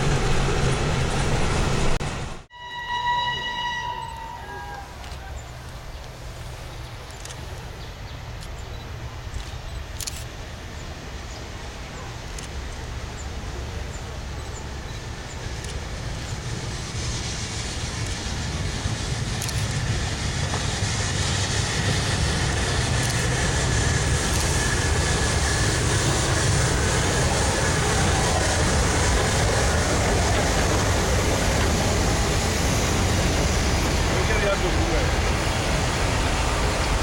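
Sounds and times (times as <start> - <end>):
steam train rumbling: 0.0 - 37.0.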